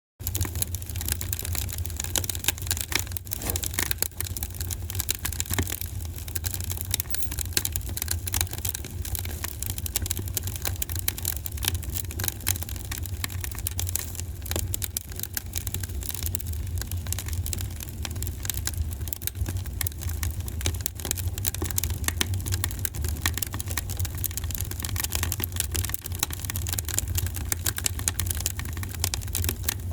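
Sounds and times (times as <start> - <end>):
wood fire crackling: 0.2 - 29.9.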